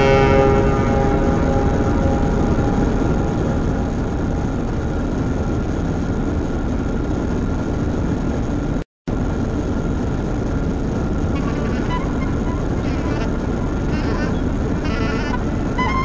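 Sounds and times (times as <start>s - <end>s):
rumbling electronic noise music: 0.0s - 16.0s.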